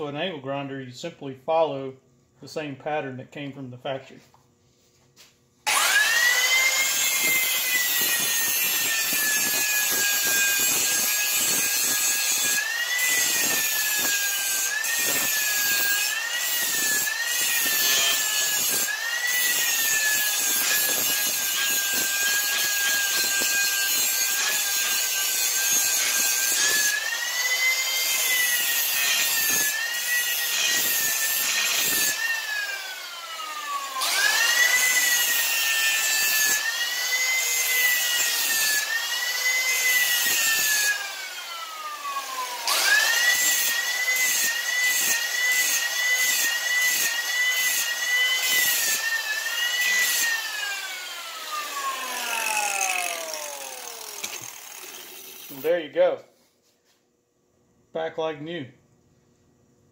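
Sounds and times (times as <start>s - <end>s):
angle grinder grinding steel: 5.7s - 56.0s.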